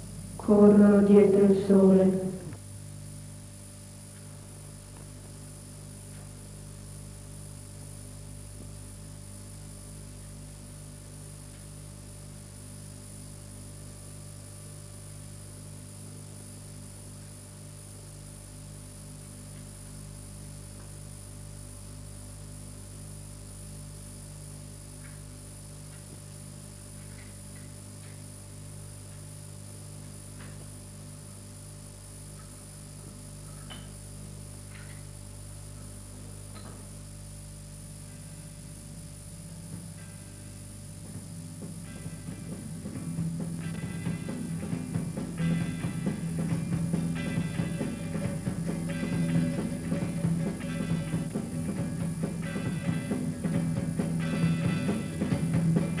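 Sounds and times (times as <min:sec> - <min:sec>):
electrical hum: 0:00.0 - 0:56.0
faint high whine and hiss: 0:00.0 - 0:56.0.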